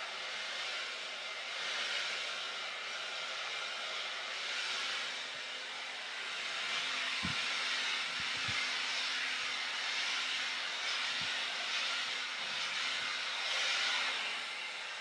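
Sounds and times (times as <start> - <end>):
blow dryer air rushing: 0.0 - 15.0.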